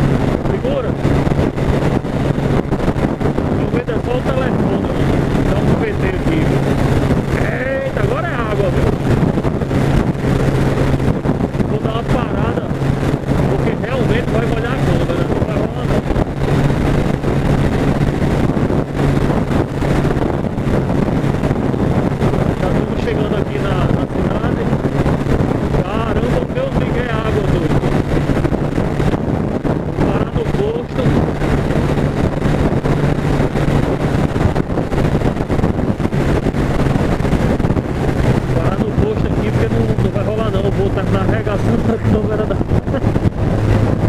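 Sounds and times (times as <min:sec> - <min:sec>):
motorcycle engine cruising: 0:00.0 - 0:44.0
wind noise on microphone: 0:00.0 - 0:44.0.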